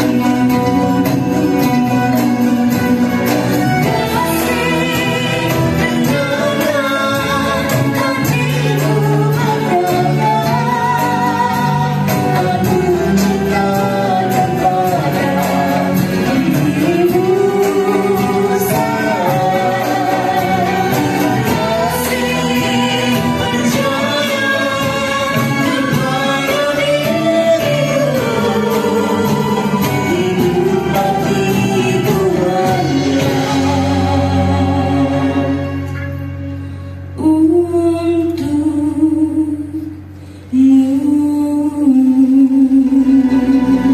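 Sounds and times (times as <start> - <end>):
acoustic ensemble playing: 0.0 - 43.9
woman singing with vibrato: 0.0 - 43.9.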